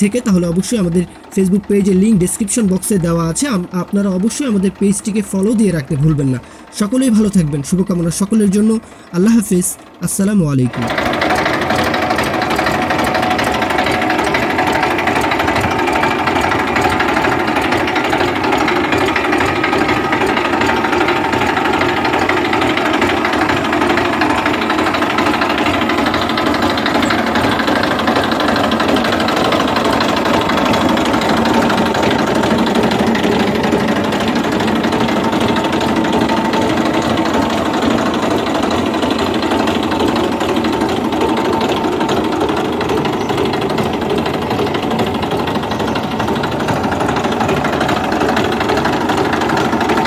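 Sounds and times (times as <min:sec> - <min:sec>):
tractor diesel engine clattering: 0:00.0 - 0:50.0.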